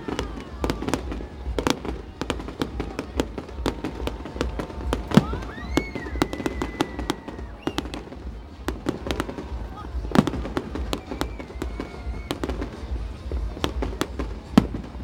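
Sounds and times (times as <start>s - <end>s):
whistling tone: 0.0s - 14.4s
fireworks bangs and crackles: 0.0s - 15.0s.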